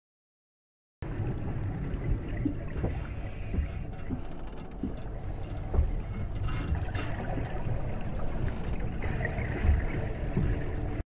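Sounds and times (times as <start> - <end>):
low rumble of moving water: 1.0 - 11.0.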